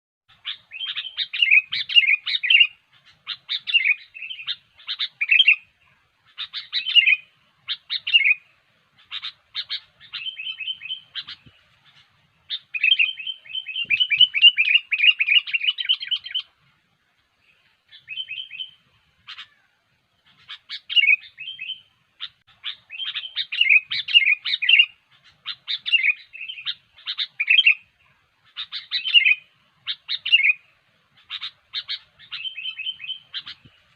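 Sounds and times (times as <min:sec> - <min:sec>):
bulbul singing: 0:00.3 - 0:16.6, 0:17.4 - 0:19.6, 0:20.2 - 0:33.9.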